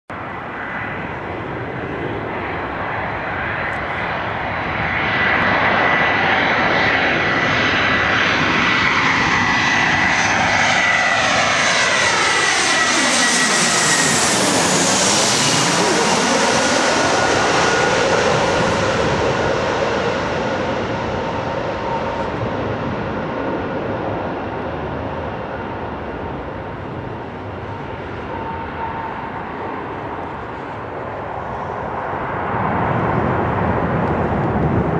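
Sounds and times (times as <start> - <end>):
jet airliner passing overhead: 0.1 - 34.9.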